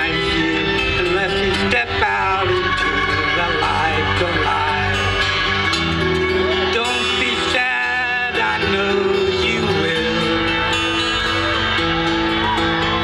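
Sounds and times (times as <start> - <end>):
man singing: 0.0 - 11.8
live rock band playing: 0.0 - 13.0.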